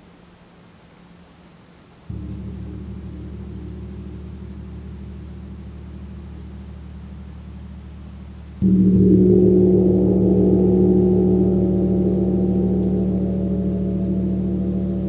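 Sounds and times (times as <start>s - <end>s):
gong ringing: 2.1s - 15.0s.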